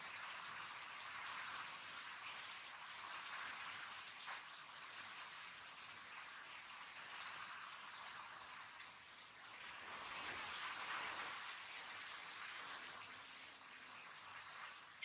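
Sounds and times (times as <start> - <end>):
rain on paving: 0.0 - 15.0.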